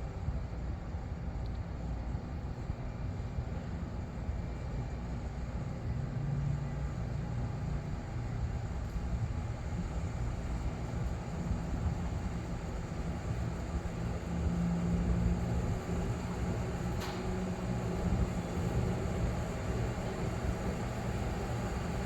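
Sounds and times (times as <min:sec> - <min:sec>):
hvac equipment humming: 0:00.0 - 0:22.0.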